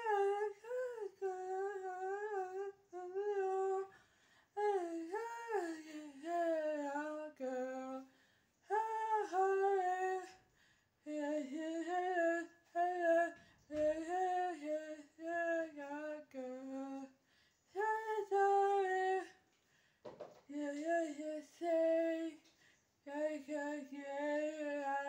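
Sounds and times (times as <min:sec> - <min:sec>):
person singing a melody: 0:00.0 - 0:03.9, 0:04.6 - 0:10.4, 0:11.0 - 0:19.4, 0:20.5 - 0:22.4, 0:23.0 - 0:25.0.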